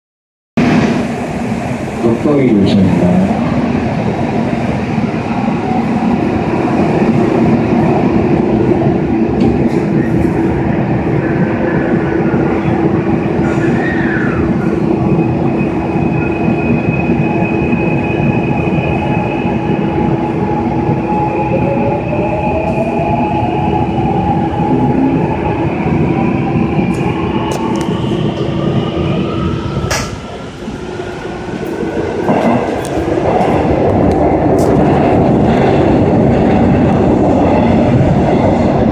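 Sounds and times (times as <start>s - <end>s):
train wheels rumbling on rail: 0.6s - 38.9s.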